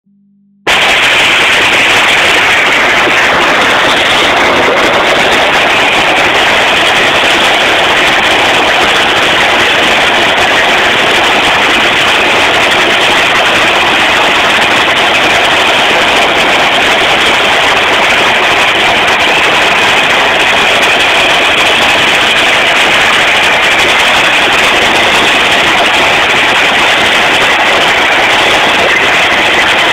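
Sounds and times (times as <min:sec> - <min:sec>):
drag racing engines running: 0:00.6 - 0:29.9.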